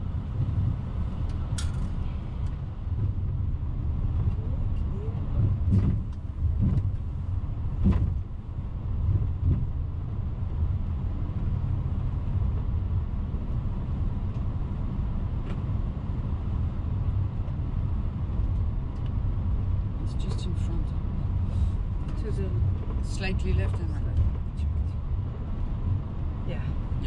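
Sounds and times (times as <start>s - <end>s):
airplane taxiing rumble: 0.0s - 27.0s.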